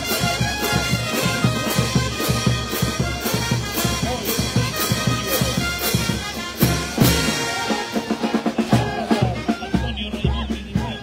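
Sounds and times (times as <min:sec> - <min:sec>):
brass band playing: 0:00.0 - 0:11.0
snare and bass drum beat: 0:00.0 - 0:11.0.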